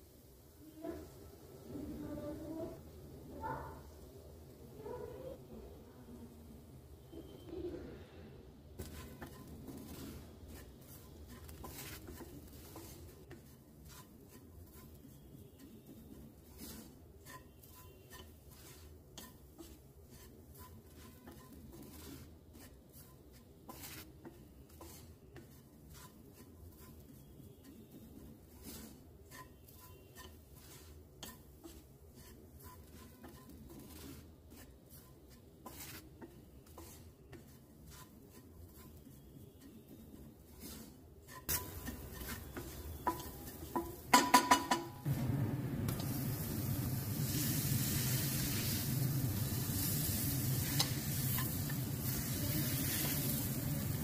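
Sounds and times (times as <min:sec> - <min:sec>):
wooden spatula scraping a pan: 0:00.6 - 0:04.1, 0:08.5 - 0:45.3, 0:45.9 - 0:54.0
frying sizzle: 0:08.6 - 0:54.0.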